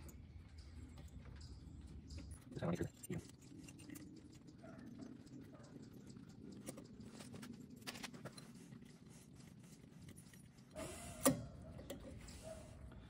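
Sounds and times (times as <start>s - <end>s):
metal parts rattling and clicking: 0.0s - 10.8s.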